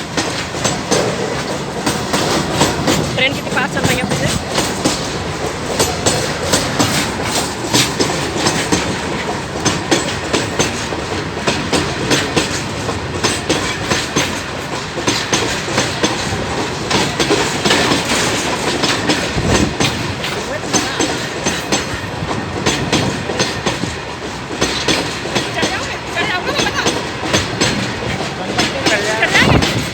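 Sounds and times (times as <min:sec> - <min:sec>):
train wheels clacking over rails: 0:00.0 - 0:29.9.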